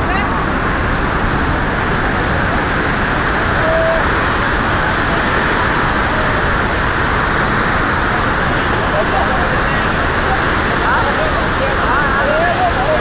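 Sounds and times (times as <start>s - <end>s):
water rushing and crashing: 0.0s - 13.0s.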